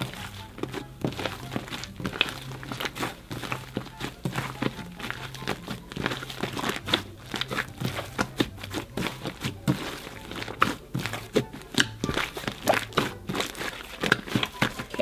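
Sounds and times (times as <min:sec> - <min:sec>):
slime squelching and popping: 0:00.0 - 0:15.0.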